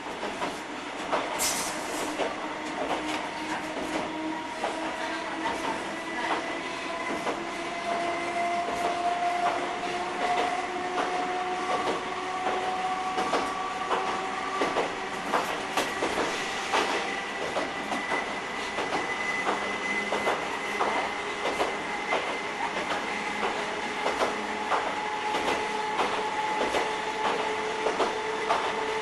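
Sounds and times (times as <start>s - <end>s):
electric train hum and whine: 0.0s - 29.0s.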